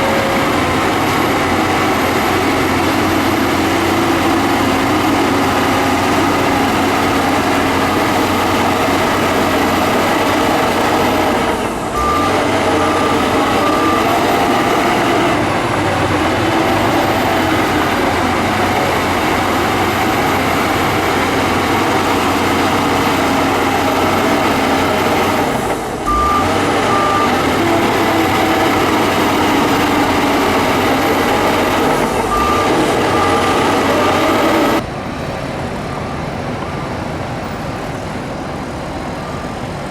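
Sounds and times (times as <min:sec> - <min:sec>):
reversing alarm beeps: 0:00.0 - 0:34.8
bulldozer diesel engine working: 0:00.0 - 0:39.9.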